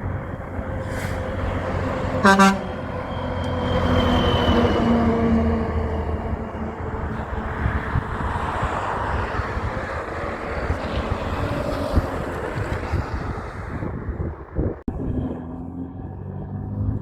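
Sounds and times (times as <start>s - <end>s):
heavy truck driving past: 0.0s - 14.0s
wind buffeting microphone: 0.0s - 17.0s.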